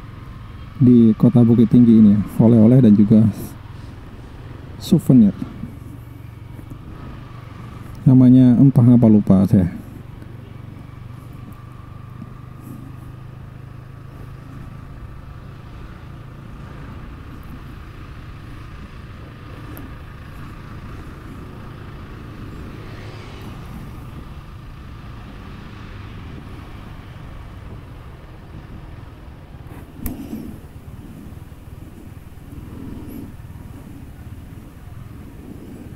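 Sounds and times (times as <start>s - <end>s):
motorcycle engine running: 0.0s - 35.9s
road noise: 0.0s - 35.9s.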